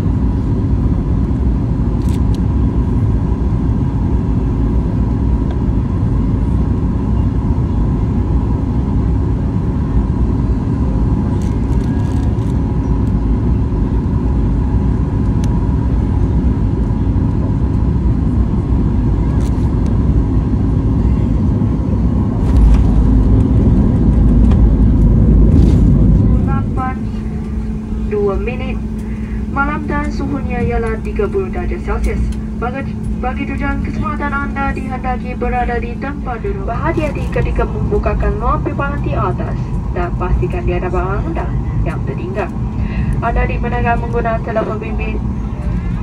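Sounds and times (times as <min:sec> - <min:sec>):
airliner cabin rumble of airflow and engines: 0:00.0 - 0:46.0.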